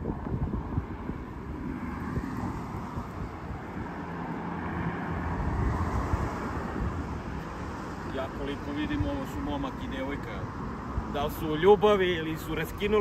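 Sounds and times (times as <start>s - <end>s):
engine hum: 0.0s - 13.0s
road traffic noise: 0.0s - 13.0s.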